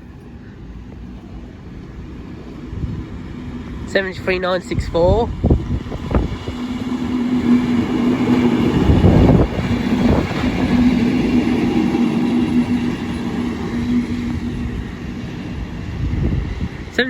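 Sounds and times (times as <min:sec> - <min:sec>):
locomotive rumbling past: 0:00.0 - 0:17.0.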